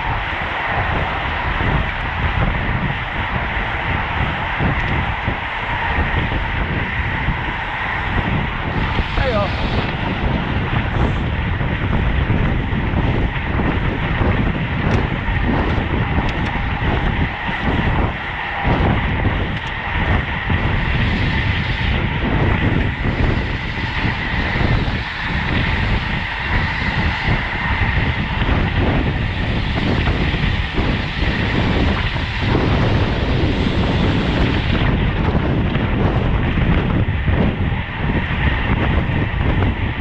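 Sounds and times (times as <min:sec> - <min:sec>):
tyre and road noise: 0:00.0 - 0:40.0
wind rushing over microphone: 0:00.0 - 0:40.0.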